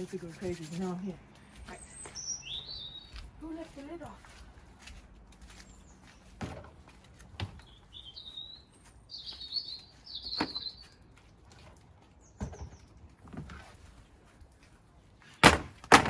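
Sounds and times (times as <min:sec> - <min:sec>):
small birds chirping: 0:00.0 - 0:04.8, 0:05.4 - 0:13.5.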